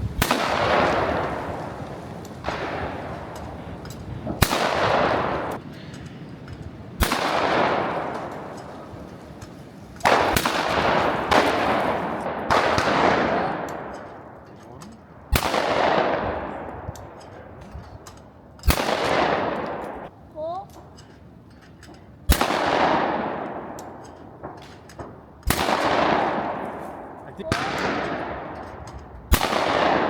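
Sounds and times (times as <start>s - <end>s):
shotgun shots echoing: 0.0s - 17.6s, 18.6s - 20.1s, 22.3s - 30.0s.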